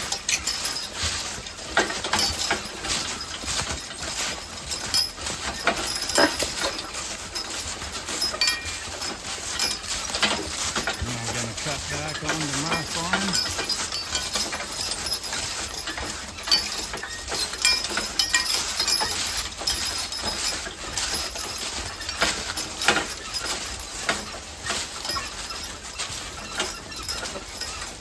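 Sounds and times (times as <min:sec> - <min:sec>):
hooves knocking and crunching: 0:00.1 - 0:27.5.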